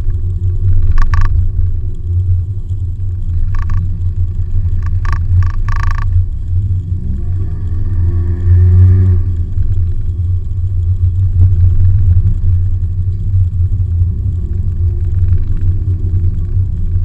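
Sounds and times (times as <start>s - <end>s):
car engine drone: 0.0s - 17.0s
tyre road noise: 0.0s - 17.0s.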